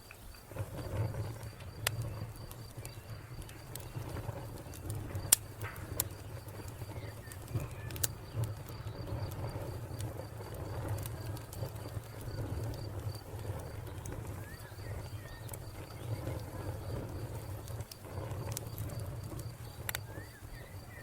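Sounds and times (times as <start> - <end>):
cricket chirping: 0.0 - 21.0
wood fire crackling: 0.0 - 21.0.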